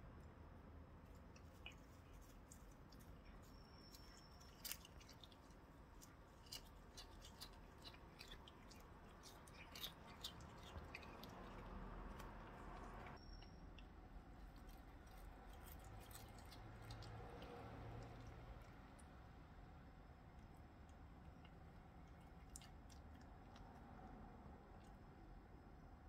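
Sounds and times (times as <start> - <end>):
cat chewing grass: 0.9 - 25.9.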